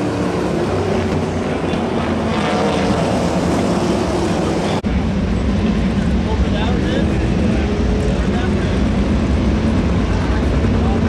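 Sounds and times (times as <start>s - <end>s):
race car engines: 0.0s - 11.0s.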